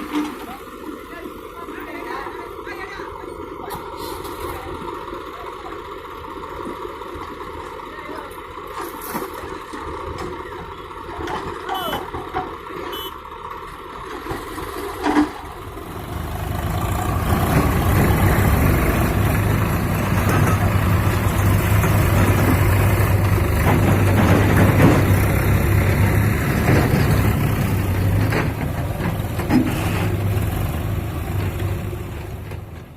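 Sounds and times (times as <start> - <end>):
heavy diesel engine running: 0.0 - 32.9.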